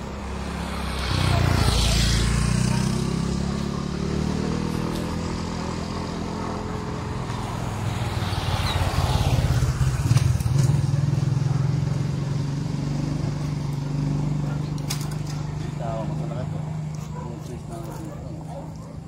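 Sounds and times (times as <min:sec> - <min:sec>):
motorcycle engine passing: 0:00.0 - 0:19.0.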